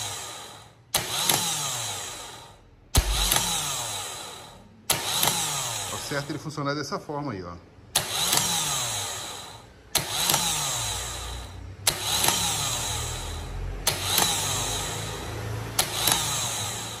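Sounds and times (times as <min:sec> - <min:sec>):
starter motor click: 0:00.0 - 0:06.4, 0:07.9 - 0:17.0
starter motor spinning: 0:00.0 - 0:06.5, 0:07.8 - 0:17.0.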